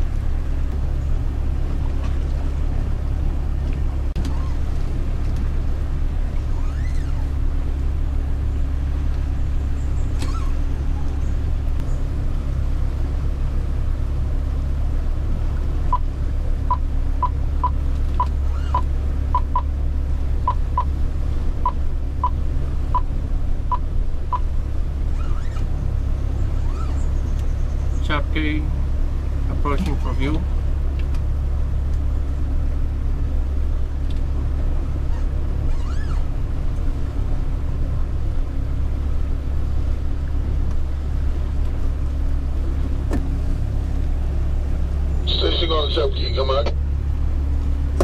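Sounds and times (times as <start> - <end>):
boat engine rumbling: 0.0 - 48.0.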